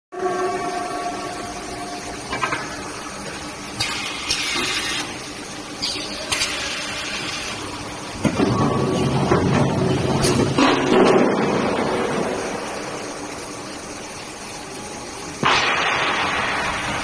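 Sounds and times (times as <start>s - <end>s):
forging machine humming: 0.2s - 17.0s.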